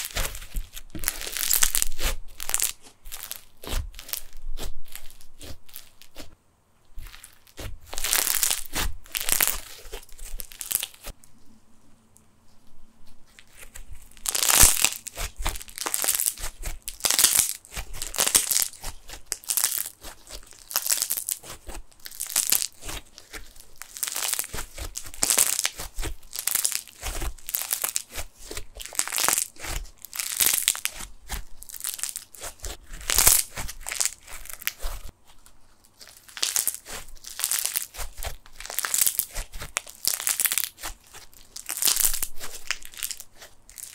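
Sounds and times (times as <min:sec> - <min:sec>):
slime crackling and popping: 0:00.0 - 0:06.3, 0:07.0 - 0:11.2, 0:13.3 - 0:43.9.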